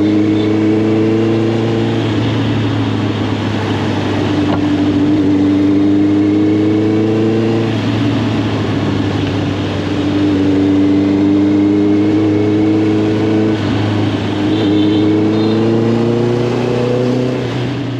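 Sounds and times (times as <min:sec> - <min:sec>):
motorcycle engine accelerating: 0:00.0 - 0:17.9
wind and road noise: 0:00.0 - 0:17.9.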